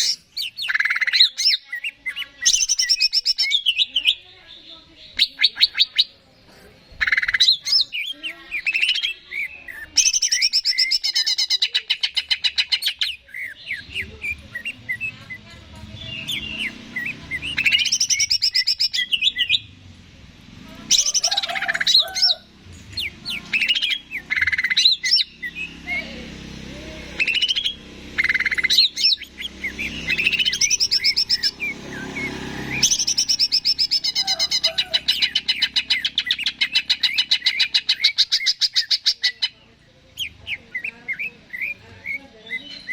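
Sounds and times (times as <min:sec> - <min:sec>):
bird singing rattling trills: 0:00.0 - 0:19.8, 0:20.8 - 0:42.9.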